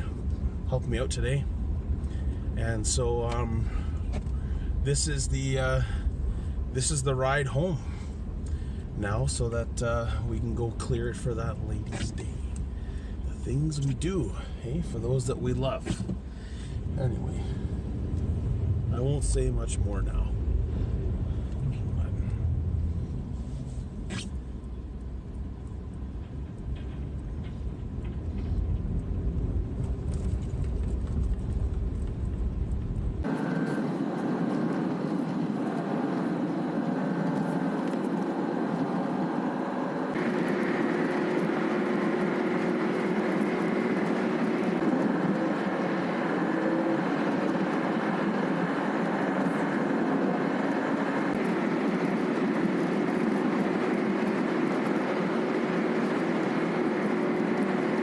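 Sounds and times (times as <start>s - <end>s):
motor vehicle engine running: 0.0s - 58.0s.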